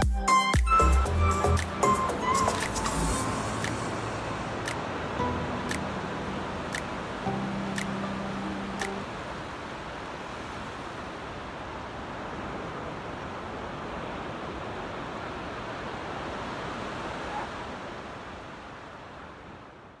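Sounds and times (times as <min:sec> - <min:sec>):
waves breaking on shore: 0:00.7 - 0:20.0.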